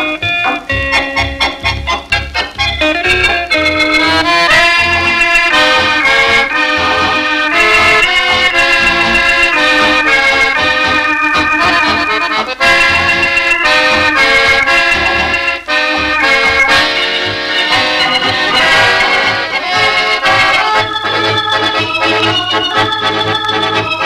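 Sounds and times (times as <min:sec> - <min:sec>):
trio playing lively tune: 0:00.0 - 0:24.0.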